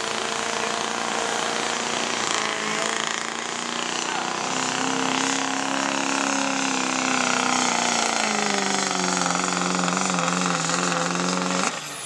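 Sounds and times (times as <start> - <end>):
diesel pickup engine running hard: 0.0 - 12.0.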